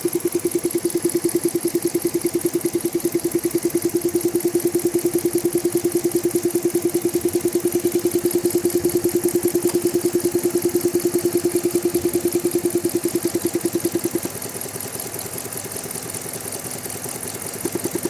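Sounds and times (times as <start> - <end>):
rapid clicking in engine bay: 0.0 - 18.0.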